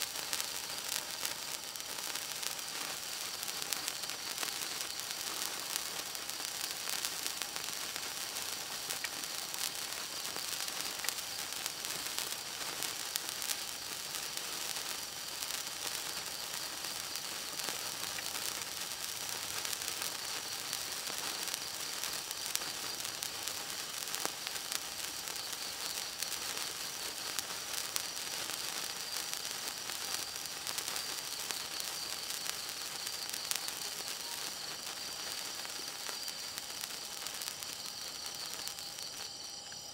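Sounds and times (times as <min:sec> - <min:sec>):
sparkler hissing and crackling: 0:00.0 - 0:39.9.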